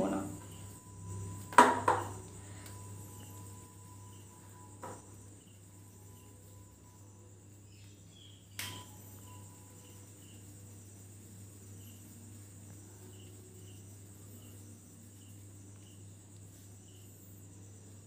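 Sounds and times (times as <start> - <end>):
insect chirring: 0.0 - 18.0.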